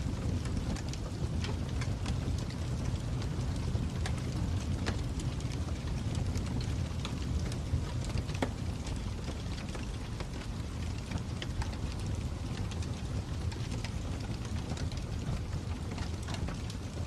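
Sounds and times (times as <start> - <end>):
fire crackling: 0.0 - 17.0
fire pops and snaps: 0.0 - 17.0.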